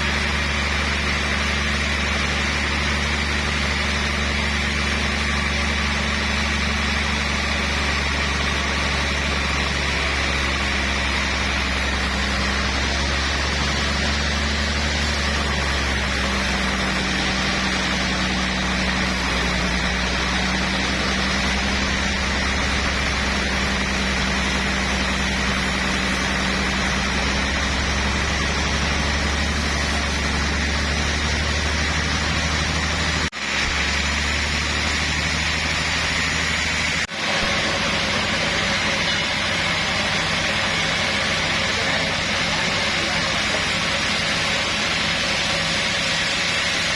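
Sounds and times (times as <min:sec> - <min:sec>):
engine hum: 0:00.0 - 0:46.9
high machinery whine: 0:00.0 - 0:46.9.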